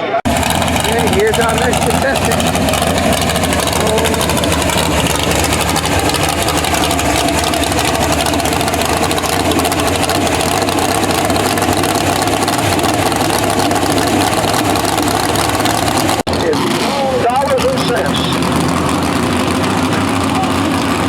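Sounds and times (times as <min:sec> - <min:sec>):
tractor engine running steadily: 0:00.0 - 0:21.0.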